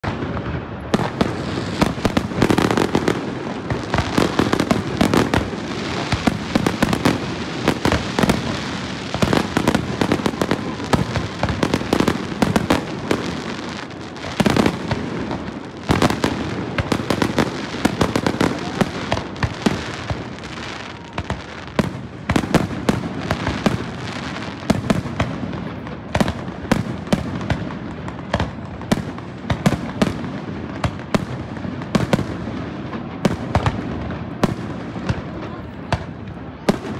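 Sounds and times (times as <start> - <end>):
fireworks bursting: 0.0 - 36.9.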